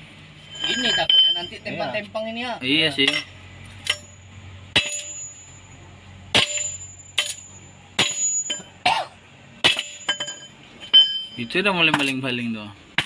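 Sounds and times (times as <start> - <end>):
metal clangs with ring: 0.4 - 1.9, 3.0 - 12.2.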